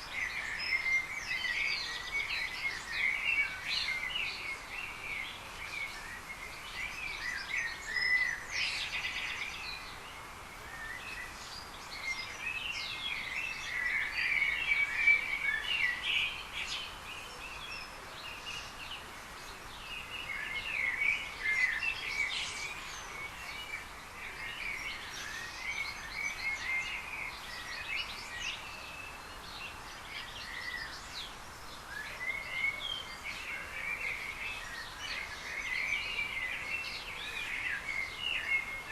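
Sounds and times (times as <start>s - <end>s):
small birds chirping: 0.0s - 38.9s
steady outdoor hiss: 0.0s - 38.9s.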